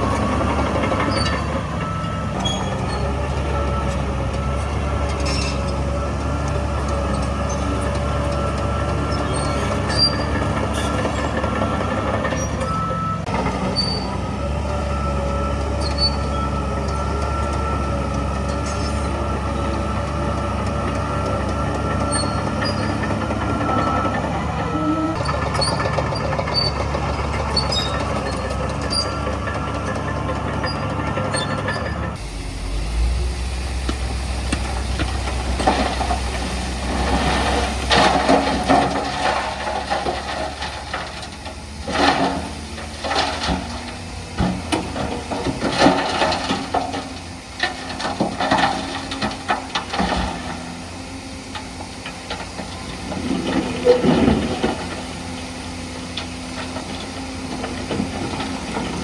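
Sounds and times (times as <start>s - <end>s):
diesel engine running: 0.0s - 59.0s
machinery clanks and rattles: 0.0s - 59.0s.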